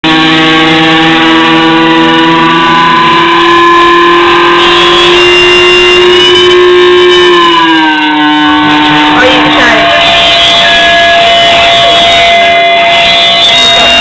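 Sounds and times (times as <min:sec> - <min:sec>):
guitar drone: 0:00.0 - 0:14.0.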